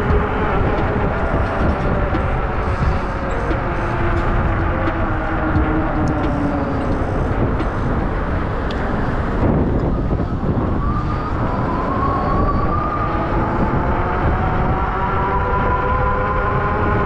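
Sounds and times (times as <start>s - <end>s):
road noise: 0.0s - 17.0s
wind rush: 0.0s - 17.0s.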